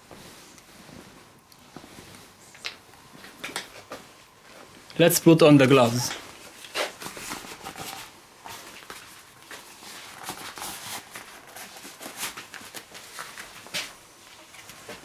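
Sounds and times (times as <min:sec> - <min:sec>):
rubber gloves rustling: 0:00.0 - 0:15.0.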